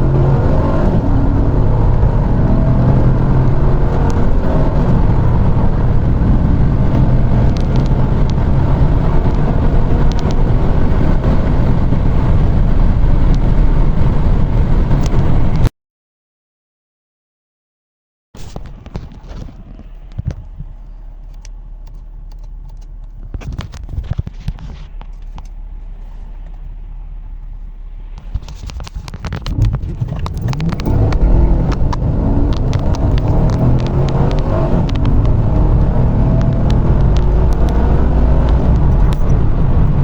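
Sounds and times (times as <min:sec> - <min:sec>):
engine clicks and knocks: 0:00.0 - 0:12.4, 0:18.5 - 0:40.0
car engine accelerating: 0:00.0 - 0:15.6, 0:18.6 - 0:40.0.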